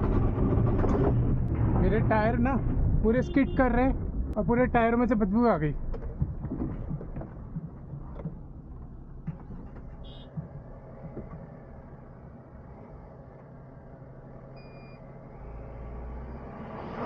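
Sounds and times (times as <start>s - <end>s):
van engine running at low revs: 0.0s - 3.2s, 5.7s - 17.0s.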